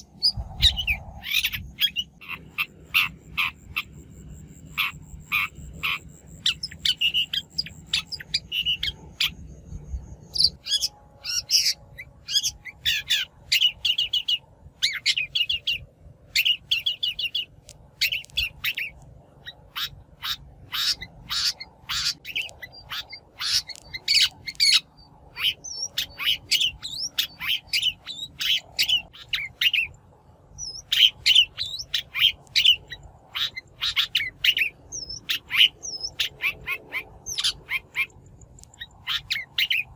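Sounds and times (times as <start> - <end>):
shrike calling: 0.0 - 29.9, 30.6 - 39.9.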